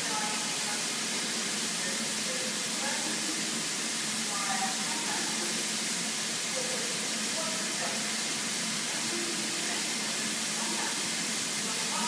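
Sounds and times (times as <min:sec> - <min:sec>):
steam hissing: 0:00.0 - 0:12.0.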